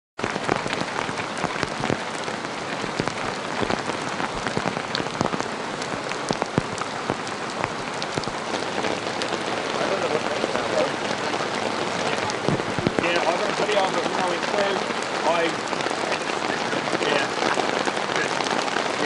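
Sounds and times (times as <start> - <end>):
heavy rain on hard surface: 0.2 - 19.0.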